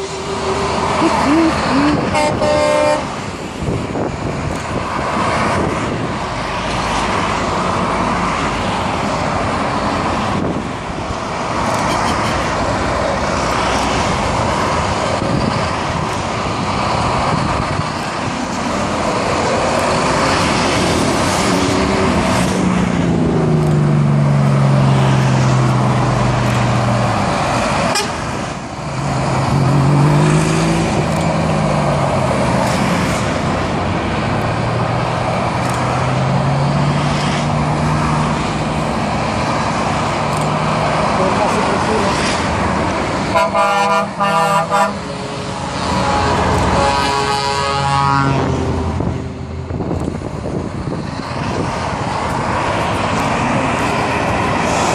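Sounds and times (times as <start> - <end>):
motorway traffic rush: 0.0 - 54.9
truck engine passing: 0.0 - 54.9.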